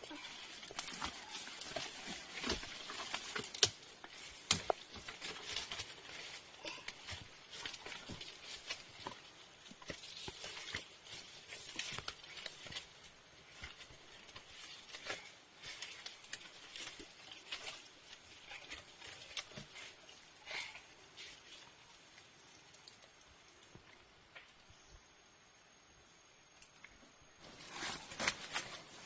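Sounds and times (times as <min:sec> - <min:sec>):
rustling and crackling: 0:00.0 - 0:24.6, 0:27.3 - 0:29.0.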